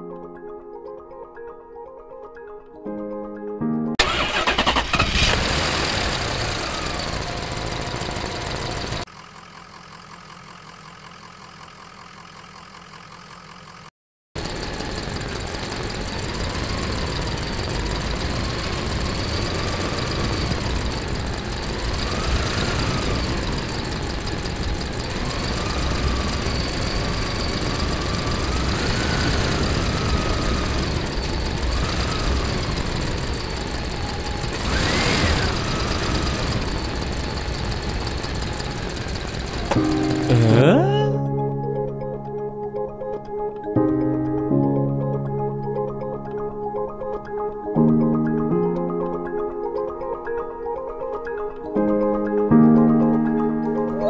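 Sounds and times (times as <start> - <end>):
heavy vehicle engine running: 4.0 - 47.5.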